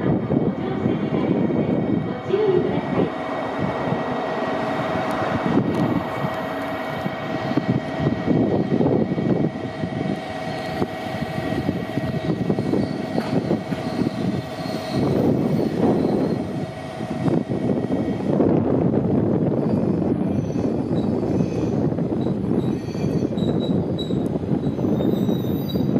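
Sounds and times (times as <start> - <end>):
diesel railcar engine drone: 0.0 - 25.9.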